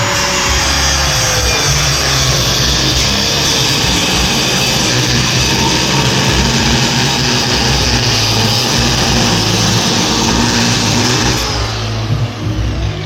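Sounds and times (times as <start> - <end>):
music with heavy bass line: 0.0 - 13.0.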